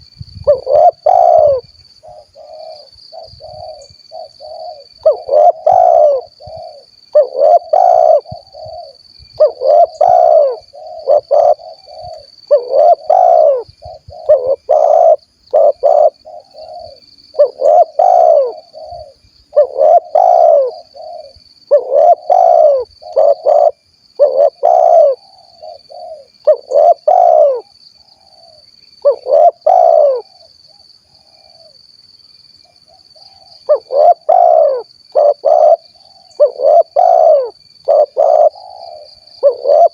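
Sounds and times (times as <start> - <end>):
dove cooing: 0.4 - 30.5, 32.9 - 39.9.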